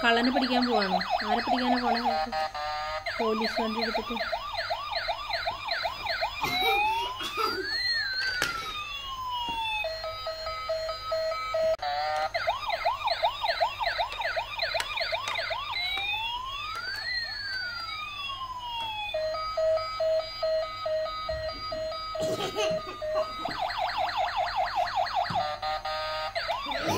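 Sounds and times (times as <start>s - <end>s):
steady beeping tone: 0.0s - 8.2s, 8.8s - 16.3s, 19.1s - 26.9s
toy electronic siren: 0.0s - 26.9s.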